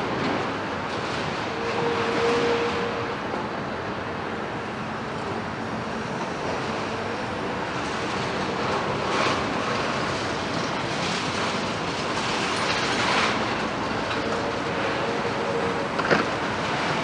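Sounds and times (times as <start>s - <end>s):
diesel engines and hydraulics: 0.0s - 17.0s.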